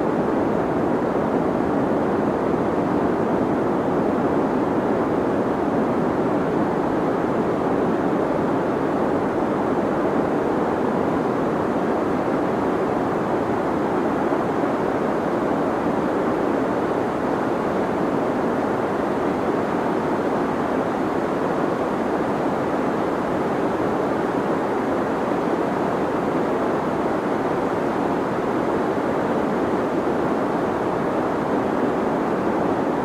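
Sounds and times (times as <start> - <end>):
deep white noise hiss: 0.0 - 33.0.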